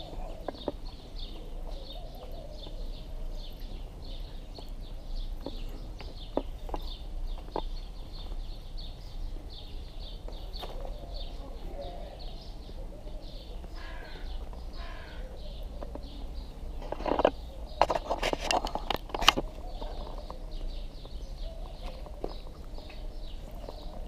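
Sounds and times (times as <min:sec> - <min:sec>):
small bird chirping: 0:00.0 - 0:24.0.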